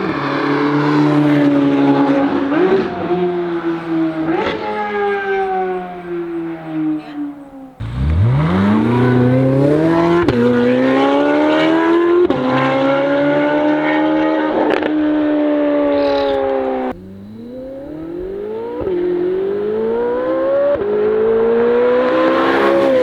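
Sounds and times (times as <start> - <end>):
sports car engine revving: 0.0 - 23.0.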